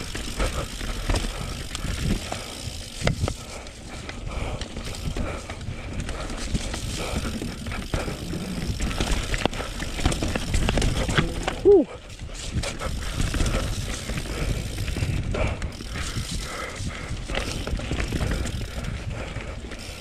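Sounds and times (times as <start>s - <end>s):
bike rattling and knocking: 0.0s - 20.0s
bike tyres on rough dirt: 0.0s - 20.0s
steady low rumble: 0.0s - 20.0s.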